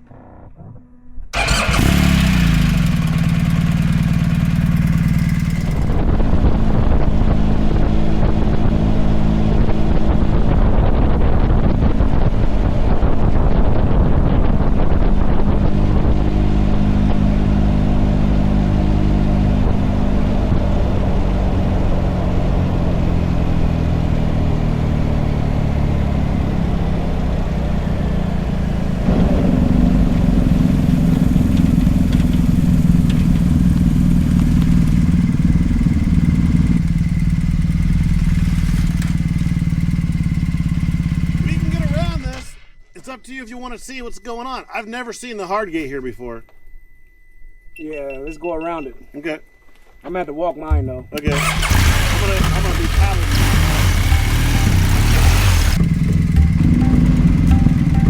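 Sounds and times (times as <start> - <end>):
road and wind noise: 1.3 - 42.4, 51.3 - 58.0
motorcycle engine: 1.3 - 42.5, 51.2 - 58.0.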